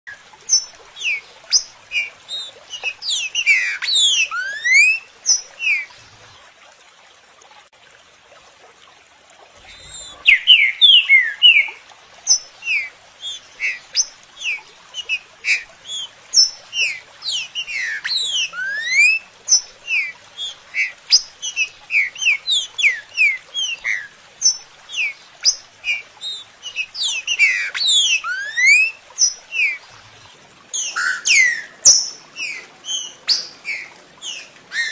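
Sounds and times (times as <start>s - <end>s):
bird whistling song: 0.5s - 5.9s, 9.7s - 29.8s, 30.7s - 34.9s.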